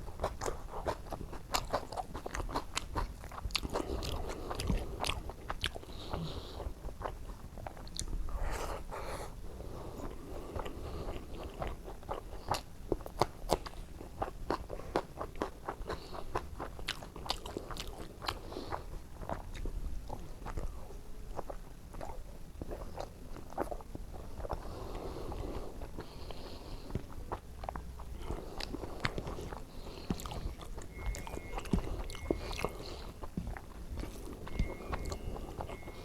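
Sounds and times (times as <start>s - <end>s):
wet chewing and smacking: 0.0s - 8.5s, 10.0s - 36.0s.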